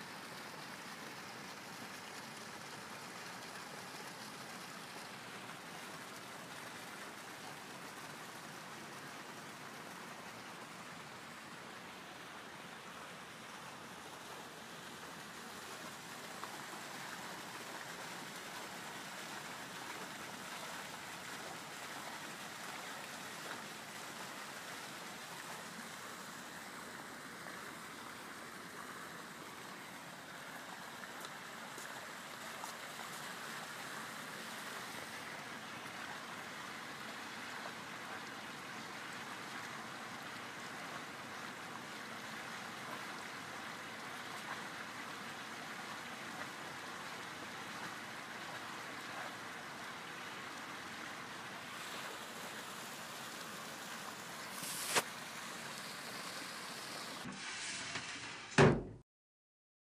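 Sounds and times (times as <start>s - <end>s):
rushing water: 0.0s - 58.8s.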